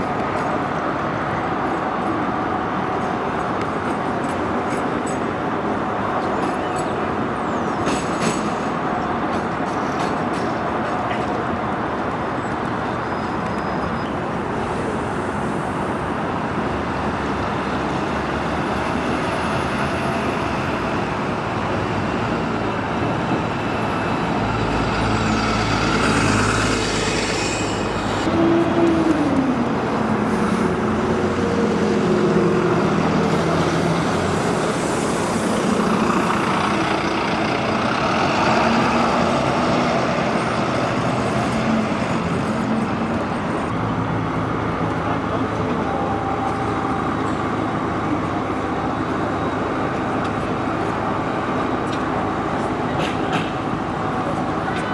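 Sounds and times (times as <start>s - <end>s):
bus engine rumbling: 0.0s - 54.9s
street traffic: 0.0s - 54.9s.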